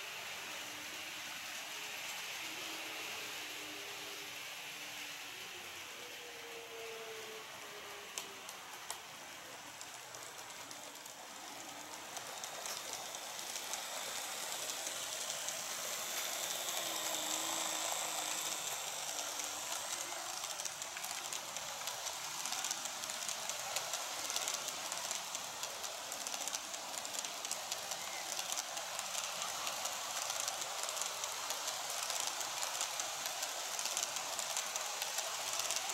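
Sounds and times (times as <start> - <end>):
model train wheels rolling: 0.0 - 35.9.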